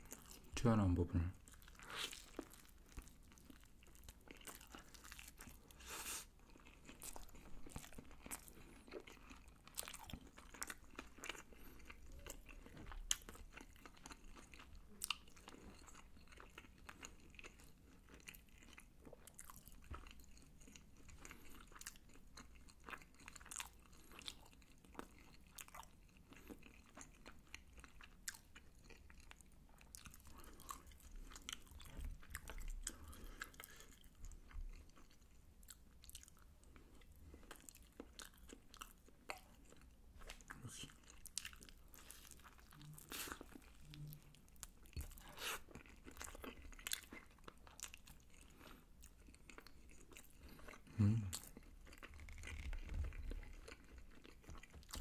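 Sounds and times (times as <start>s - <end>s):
crunching and chewing fried chicken: 0.0s - 55.0s.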